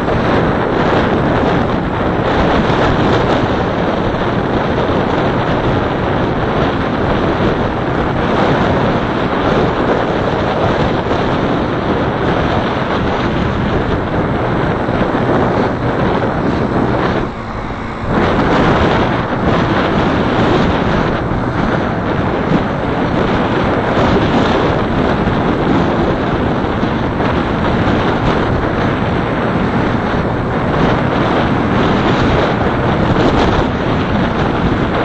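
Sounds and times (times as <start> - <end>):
road noise: 0.0 - 35.0
wind buffeting microphone: 0.0 - 35.0.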